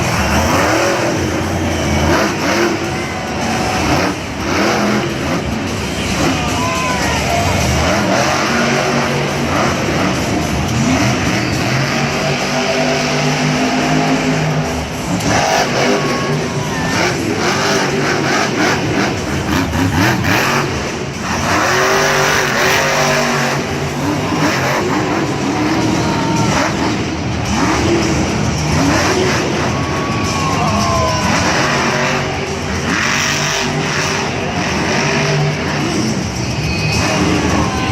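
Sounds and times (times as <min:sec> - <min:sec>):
monster truck engine revving: 0:00.0 - 0:37.9.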